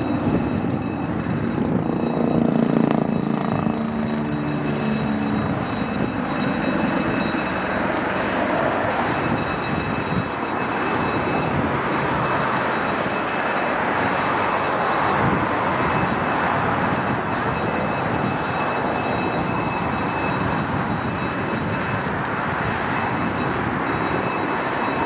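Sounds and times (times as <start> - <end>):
helicopter rotor and turbine: 0.0 - 25.0
high constant whine: 0.0 - 25.0.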